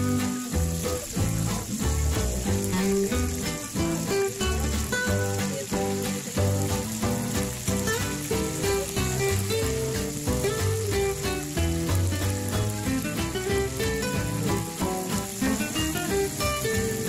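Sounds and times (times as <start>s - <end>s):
background music with a beat: 0.0s - 17.0s
frogs sizzling in hot oil: 0.0s - 17.0s.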